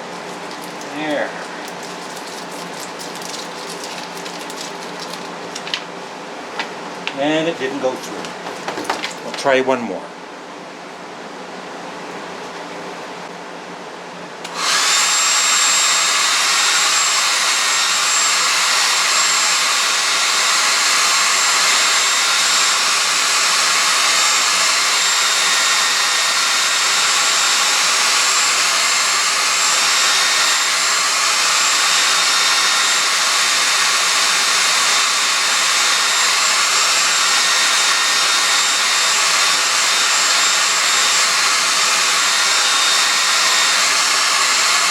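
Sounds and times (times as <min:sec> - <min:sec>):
hair dryer blowing: 0:00.0 - 0:05.9, 0:06.6 - 0:09.6, 0:14.4 - 0:44.9.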